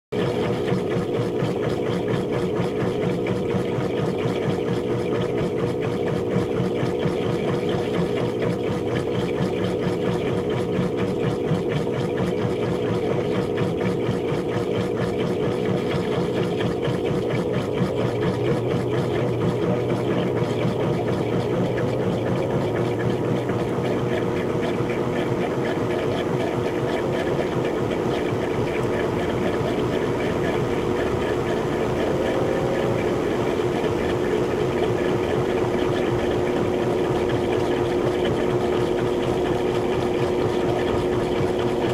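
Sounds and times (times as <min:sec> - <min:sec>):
washing machine spinning: 0:00.1 - 0:41.9.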